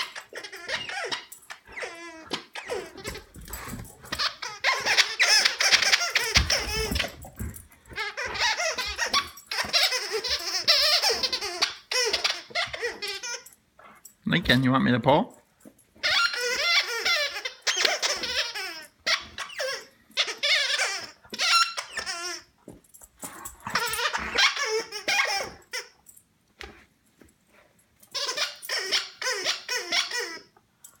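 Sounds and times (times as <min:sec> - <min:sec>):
squeaky toy squealing: 0:00.0 - 0:13.6, 0:16.0 - 0:22.5, 0:23.5 - 0:26.0, 0:28.1 - 0:30.6.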